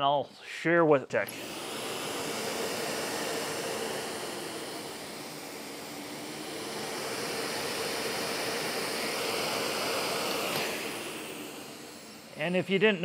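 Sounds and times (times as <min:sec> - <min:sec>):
vacuum cleaner running: 0:01.2 - 0:13.0.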